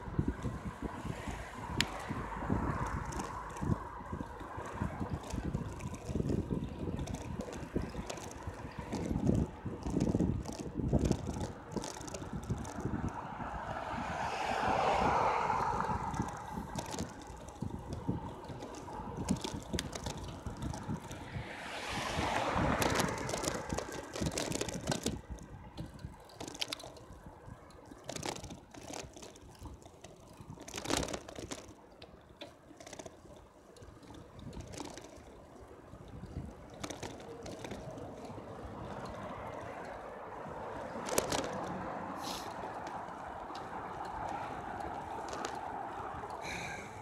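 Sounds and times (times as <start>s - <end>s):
wind buffeting microphone: 0.0s - 26.3s, 34.0s - 47.0s
bike rattles and knocks: 0.0s - 47.0s
tyre and road noise: 0.0s - 47.0s.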